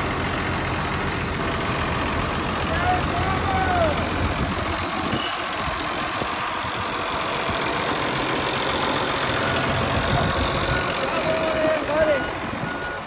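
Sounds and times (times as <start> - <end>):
large vehicle engine idling: 0.0 - 13.0.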